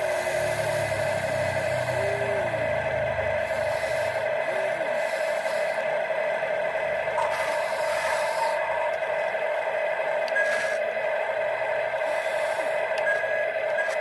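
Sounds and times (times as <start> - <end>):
higher motor whine: 0.0 - 14.0
toy motors whining: 0.0 - 14.0.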